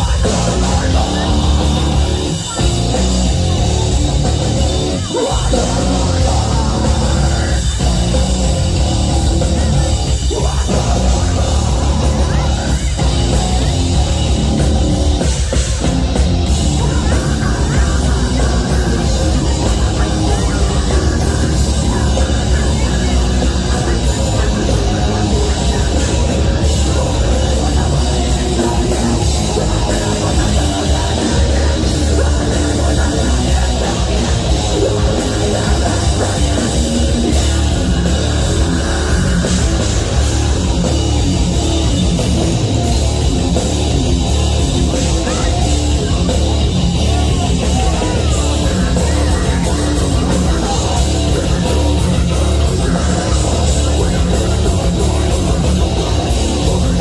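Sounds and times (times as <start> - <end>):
live heavy metal band: 0.0 - 57.0.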